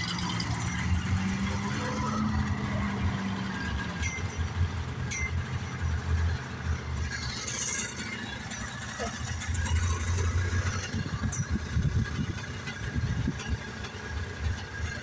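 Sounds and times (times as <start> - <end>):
car engines rumbling in traffic: 0.0 - 15.0.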